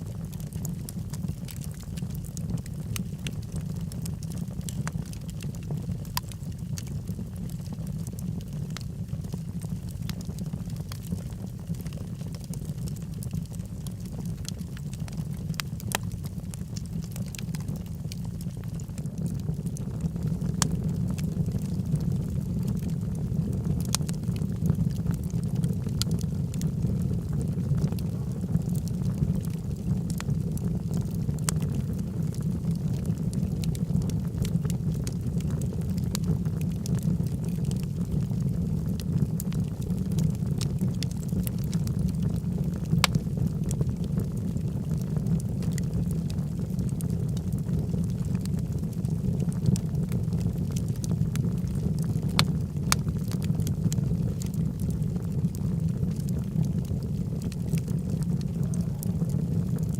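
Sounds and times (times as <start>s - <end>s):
fire flames rumbling: 0.0s - 59.9s
wood fire crackling and popping: 0.0s - 59.9s.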